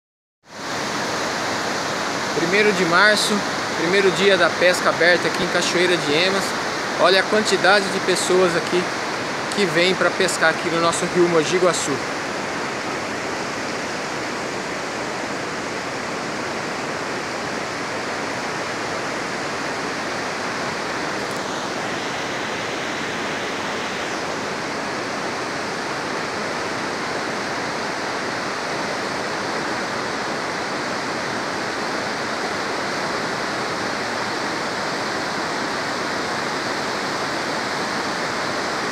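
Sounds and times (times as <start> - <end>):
river rapids rushing: 0.5 - 38.9.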